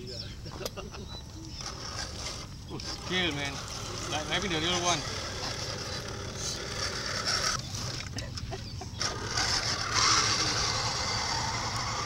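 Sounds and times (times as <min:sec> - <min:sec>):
toy truck motor whirring: 0:01.5 - 0:12.0.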